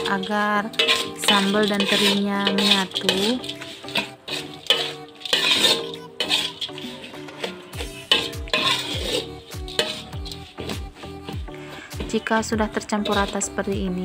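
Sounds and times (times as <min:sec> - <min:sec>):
metal spatula scraping a wok: 0:00.0 - 0:14.0
background music with deep beats: 0:02.6 - 0:14.0.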